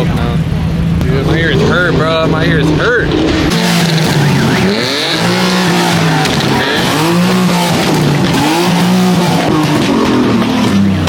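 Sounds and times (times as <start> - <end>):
car engine revving: 0.0 - 11.0
tyres screeching: 1.0 - 11.0.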